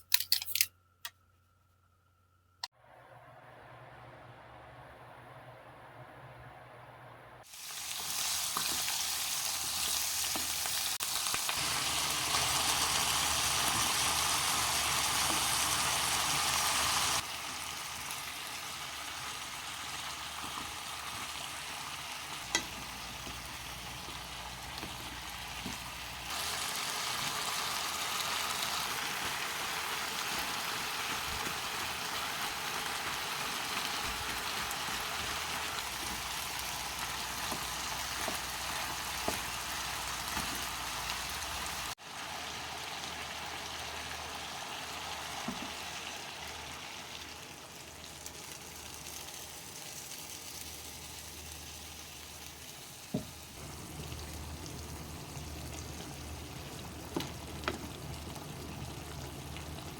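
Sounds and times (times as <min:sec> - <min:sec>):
frying pops: 0:00.0 - 0:01.2, 0:07.4 - 0:59.9
food sizzling in a pan: 0:07.4 - 0:59.9.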